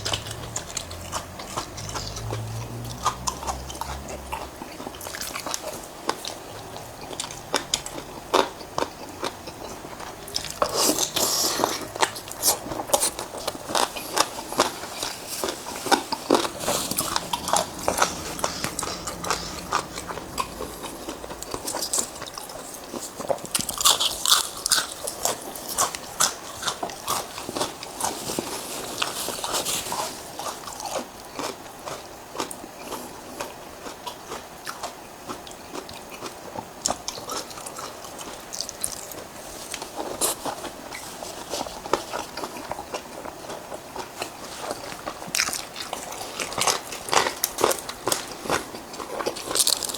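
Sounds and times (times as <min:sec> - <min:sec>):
person crunching and chewing: 0:00.0 - 0:49.9.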